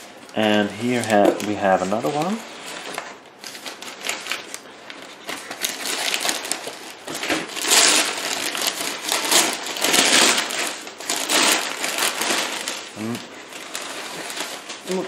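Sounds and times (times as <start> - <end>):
packing paper rustling and crinkling: 0.0 - 15.0.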